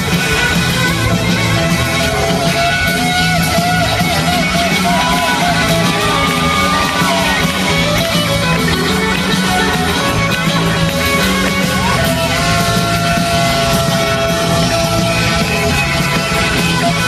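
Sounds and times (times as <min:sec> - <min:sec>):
electric guitar bent notes: 0:00.0 - 0:17.0
live rock band playing: 0:00.0 - 0:17.0.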